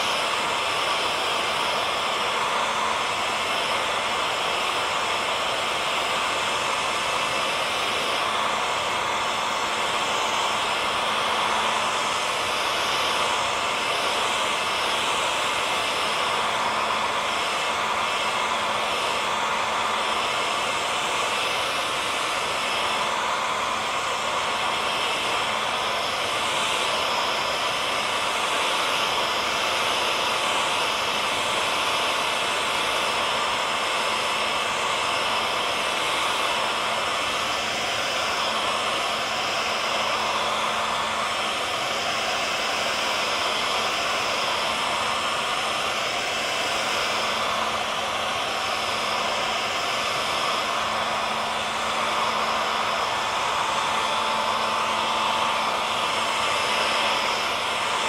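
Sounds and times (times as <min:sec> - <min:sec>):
faint motor hum and whine: 0:00.0 - 0:58.0
hair dryer blowing air: 0:00.0 - 0:58.0.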